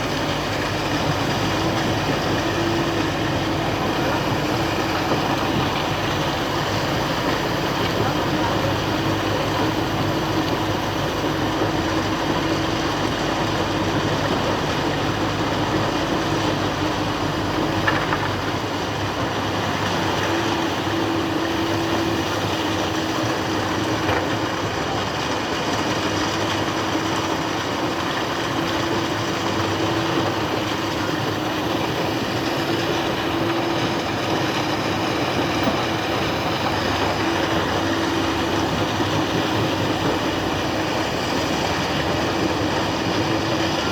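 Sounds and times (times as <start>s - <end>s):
excavator engine running: 0.0s - 43.9s.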